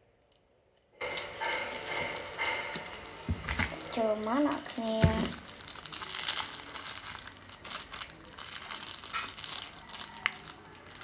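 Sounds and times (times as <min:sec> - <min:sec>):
foil sachets crinkling: 0:01.0 - 0:11.0.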